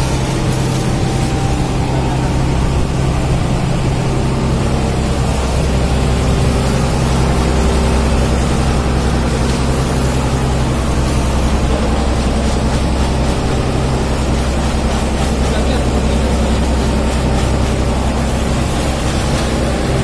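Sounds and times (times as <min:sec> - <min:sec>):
boat engine running: 0:00.0 - 0:20.0
hose splashing water: 0:00.0 - 0:20.0.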